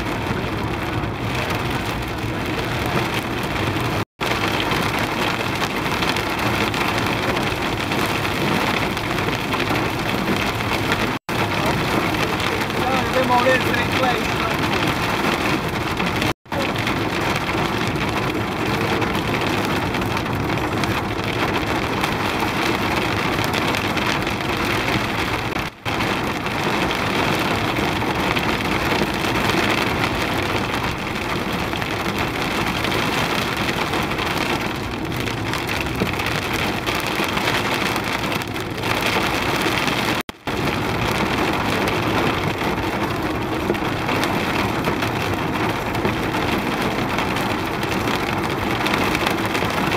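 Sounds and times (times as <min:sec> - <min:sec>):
hail and rain on car roof: 0:00.0 - 0:49.9.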